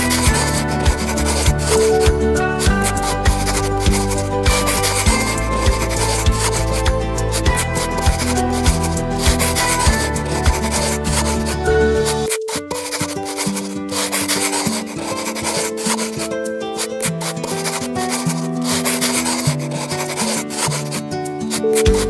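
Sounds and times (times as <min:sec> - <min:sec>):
background music of held notes: 0:00.0 - 0:22.0
marker scratching on paper: 0:00.0 - 0:22.0.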